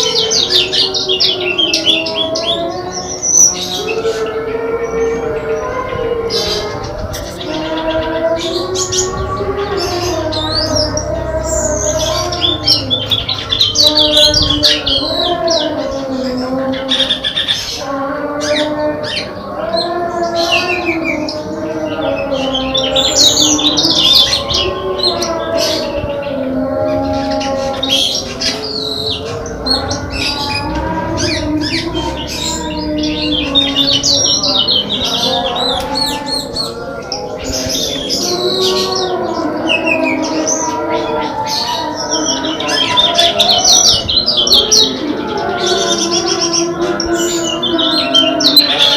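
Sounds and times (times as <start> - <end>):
low wavering drone: 0.0 - 48.9
songbirds chirping and twittering: 0.0 - 48.9.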